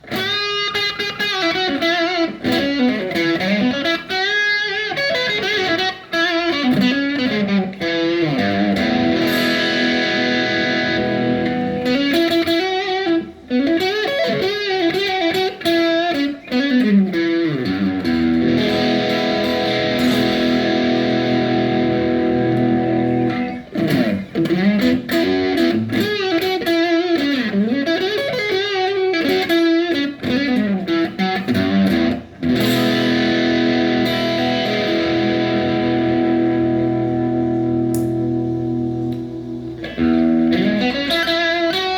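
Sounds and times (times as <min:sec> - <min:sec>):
ringing guitar chords: 0:00.0 - 0:41.9.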